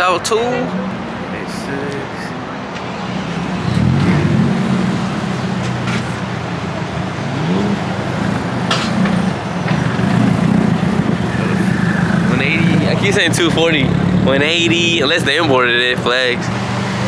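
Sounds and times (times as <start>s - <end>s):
car engine running: 2.8s - 17.0s.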